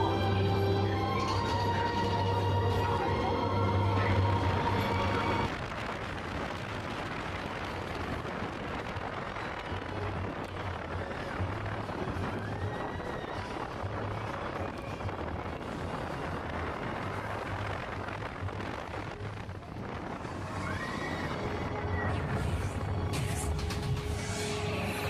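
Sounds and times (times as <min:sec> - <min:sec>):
ride music: 0:00.0 - 0:05.6, 0:09.7 - 0:25.0
roller coaster rumble: 0:00.0 - 0:25.0.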